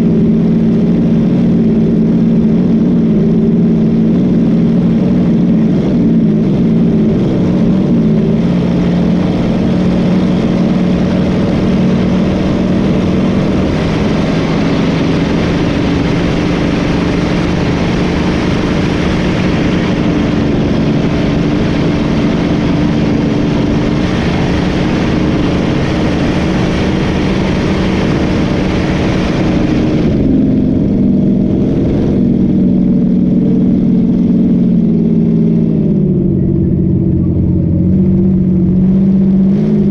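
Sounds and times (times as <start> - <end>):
rush of wind and water: 0.0 - 36.3, 37.0 - 39.9
boat engine droning: 0.0 - 39.9.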